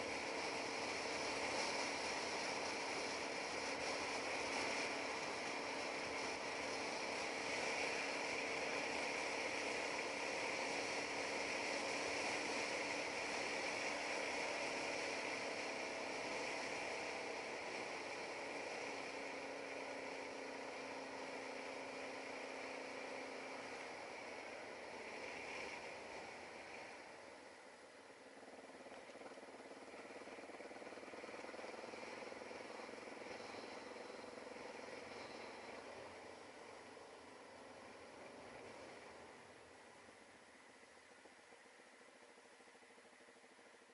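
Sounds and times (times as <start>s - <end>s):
motorcycle engine droning: 0.0s - 40.1s
wind and road noise: 0.0s - 43.9s.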